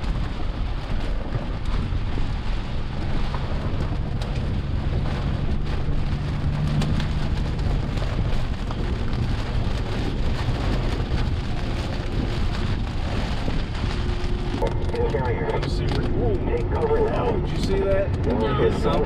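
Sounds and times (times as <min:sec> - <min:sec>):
heavy rain on hard surface: 0:00.0 - 0:19.0
low steady hum: 0:00.0 - 0:19.0.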